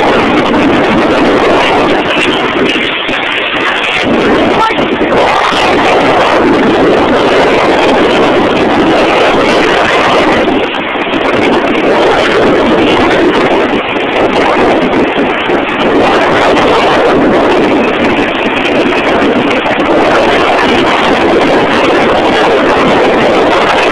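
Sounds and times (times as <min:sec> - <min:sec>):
helicopter rotor downwash: 0:00.0 - 0:23.9
wind battering microphone: 0:00.0 - 0:23.9.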